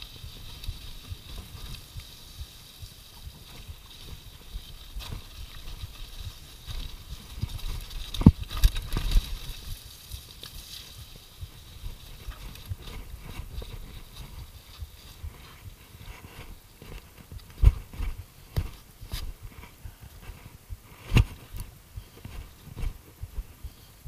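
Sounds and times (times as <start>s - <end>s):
bike tyres rattling on rough ground: 0.0s - 23.5s.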